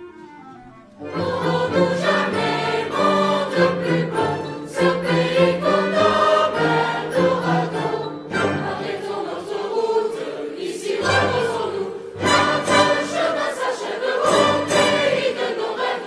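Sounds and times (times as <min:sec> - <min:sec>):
orchestra playing: 0:00.0 - 0:09.8, 0:11.0 - 0:15.9
mixed choir singing: 0:01.0 - 0:16.0.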